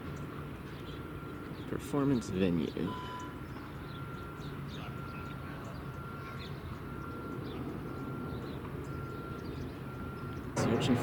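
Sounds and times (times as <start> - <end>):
low rumble of machinery: 0.0 - 11.0
traffic: 0.0 - 11.0
faint bird chirps: 0.1 - 11.0
vehicle backup alarm beeping: 1.0 - 11.0.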